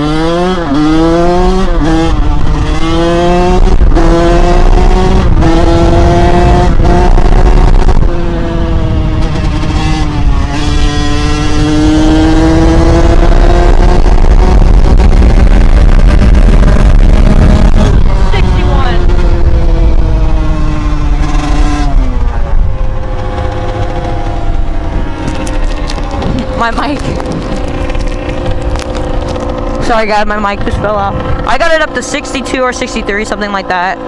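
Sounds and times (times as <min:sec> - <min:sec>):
dirt bike engine at full throttle: 0:00.0 - 0:34.0
wind on microphone: 0:00.0 - 0:34.0.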